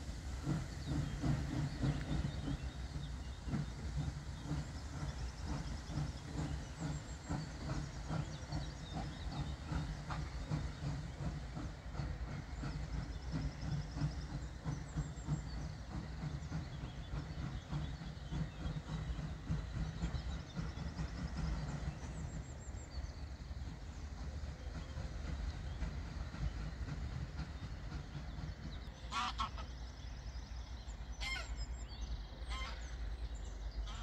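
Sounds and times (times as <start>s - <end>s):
steam exhaust chuffs: 0.0s - 31.0s
hissing steam: 0.0s - 34.0s.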